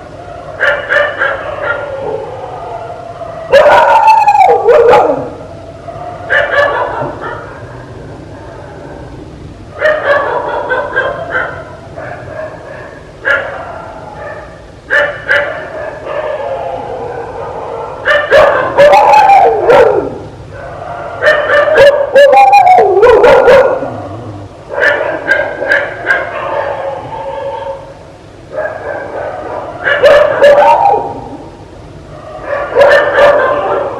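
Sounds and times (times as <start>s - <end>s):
dog whining yelps: 0.5s - 5.3s, 6.0s - 7.8s, 9.8s - 24.0s, 24.8s - 27.8s, 28.6s - 31.3s, 32.4s - 33.9s
dog barking and yipping: 0.6s - 2.3s, 3.3s - 5.3s, 6.0s - 7.9s, 9.8s - 24.0s, 24.7s - 27.8s, 28.5s - 31.2s, 32.4s - 33.9s.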